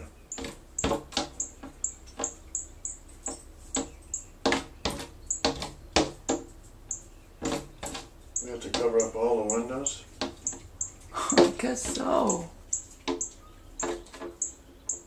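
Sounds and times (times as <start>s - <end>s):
bird making sharp clicks: 0.3s - 15.0s.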